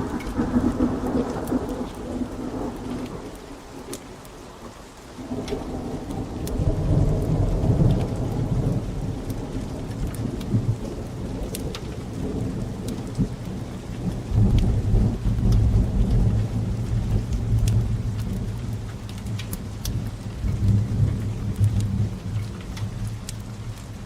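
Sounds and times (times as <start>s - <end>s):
thunder rumbling: 0.0s - 4.2s, 5.2s - 24.0s
steady rain: 0.0s - 24.0s
wood fire crackling: 0.0s - 24.0s.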